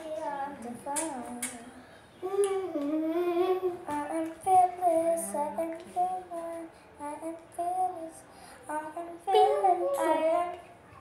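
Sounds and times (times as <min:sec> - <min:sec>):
girl singing: 0:00.0 - 0:10.8.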